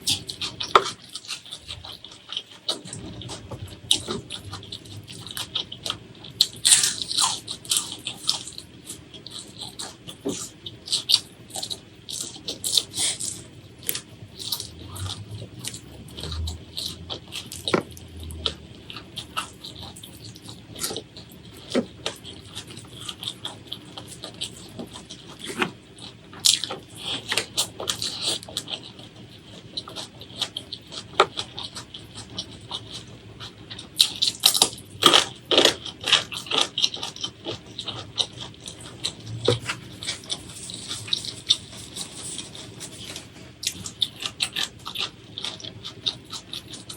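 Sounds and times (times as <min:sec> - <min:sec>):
chewing with crunching bites: 0:00.0 - 0:46.9.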